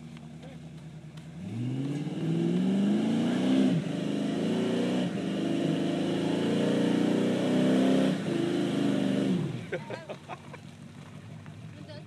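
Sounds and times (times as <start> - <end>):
truck engine revving: 0.0 - 11.8.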